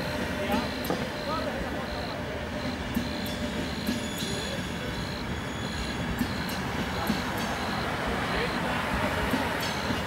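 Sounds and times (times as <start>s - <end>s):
train wheels rushing on rails: 0.0s - 10.0s.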